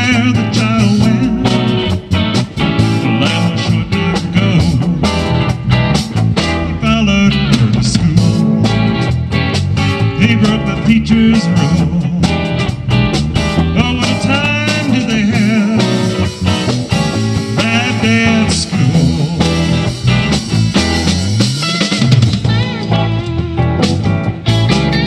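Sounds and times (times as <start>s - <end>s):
lead guitar bending pitch: 0.0s - 25.0s
live rock band playing: 0.0s - 25.0s.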